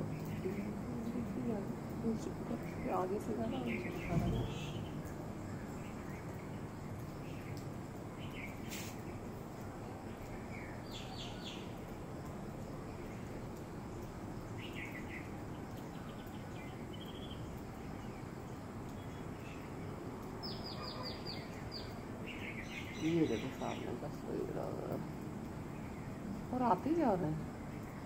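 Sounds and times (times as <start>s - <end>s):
outdoor background hiss: 0.0s - 28.0s
small birds chirping: 0.0s - 28.0s.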